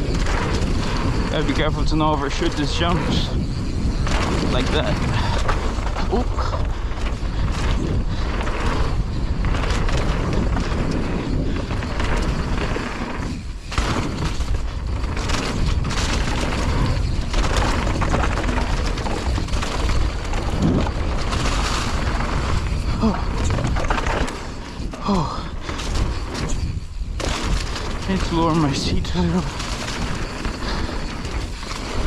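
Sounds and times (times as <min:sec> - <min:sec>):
mountain bike rattling and knocking: 0:00.0 - 0:32.0
wind buffeting microphone: 0:00.0 - 0:32.0.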